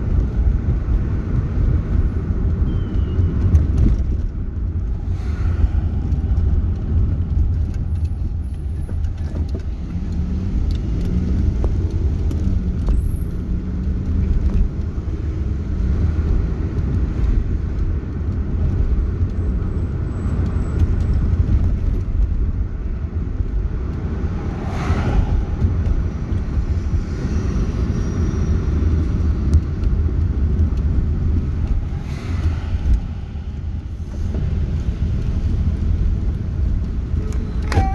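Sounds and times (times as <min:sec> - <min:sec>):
car engine and tyre rumble: 0:00.0 - 0:37.9.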